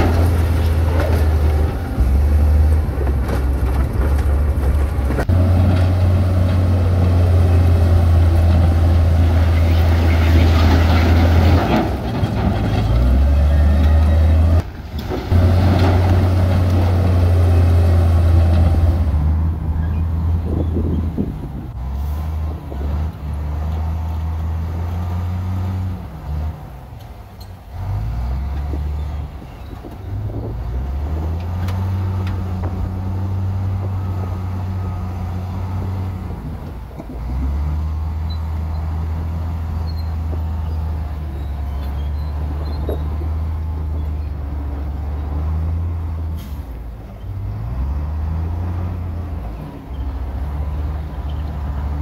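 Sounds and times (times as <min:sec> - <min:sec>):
heavy diesel engine running: 0:00.0 - 0:25.6, 0:31.6 - 0:52.0.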